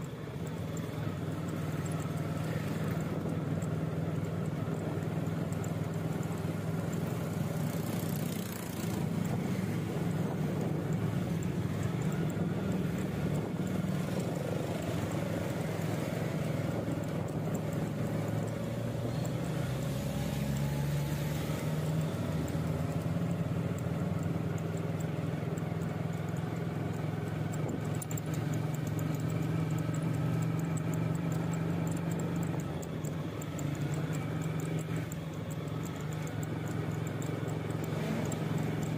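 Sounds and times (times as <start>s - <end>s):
road and street noise: 0.0s - 38.9s
vehicle engine running: 0.0s - 38.9s.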